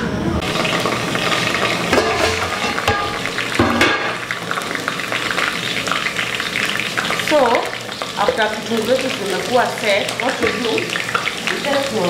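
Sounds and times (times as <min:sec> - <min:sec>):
onions sizzling in hot oil: 0:00.4 - 0:12.0.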